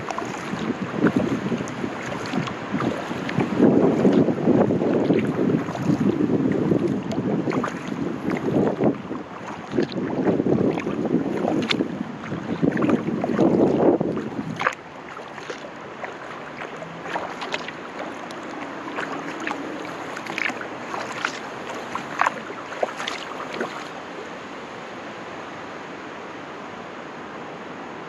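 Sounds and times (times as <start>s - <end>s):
paddle splashes and drips: 0.0s - 25.0s.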